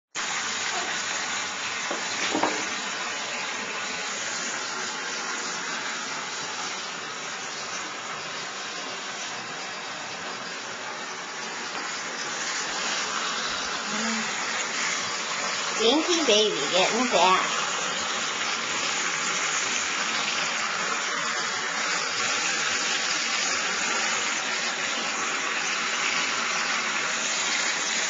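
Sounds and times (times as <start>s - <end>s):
water running: 0.2s - 28.0s.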